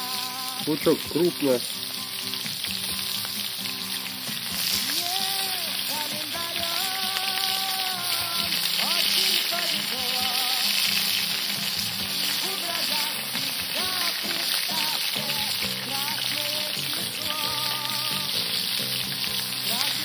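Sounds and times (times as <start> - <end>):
food sizzling in oil: 0.0 - 20.0
music playing: 0.0 - 20.0.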